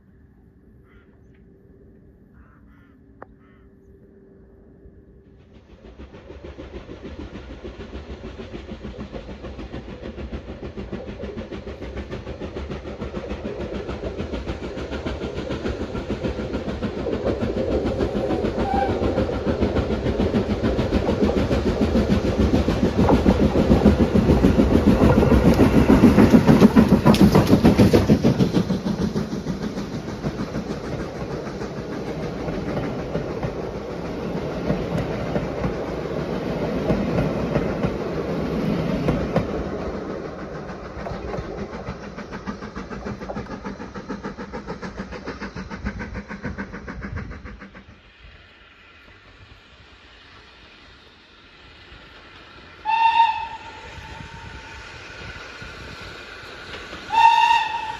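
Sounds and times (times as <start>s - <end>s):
steam locomotive exhaust beats: 0.1s - 57.9s
train coaches rolling past: 3.0s - 57.9s.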